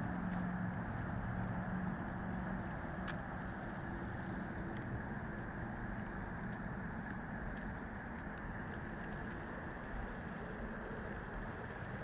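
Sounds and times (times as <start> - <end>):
traffic rumble: 0.0 - 12.0
vehicle engine hum: 0.0 - 12.0.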